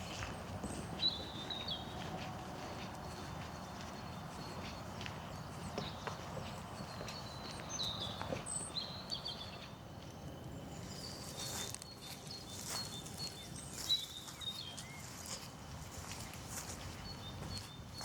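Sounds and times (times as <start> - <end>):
footsteps crunching on path: 0.0 - 18.0
small birds chirping: 0.0 - 18.0.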